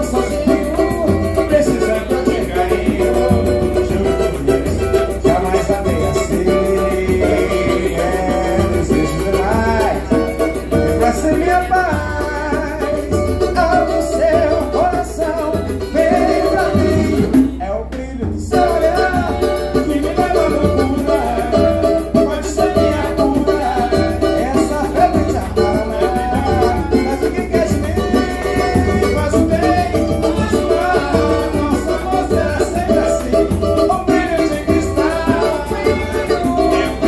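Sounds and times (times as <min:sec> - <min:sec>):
pandeiro jingles: 0:00.0 - 0:17.6, 0:18.5 - 0:37.0
barrel drum bass beat: 0:00.0 - 0:37.0
man singing: 0:00.0 - 0:37.0
strummed cavaquinho: 0:00.0 - 0:37.0.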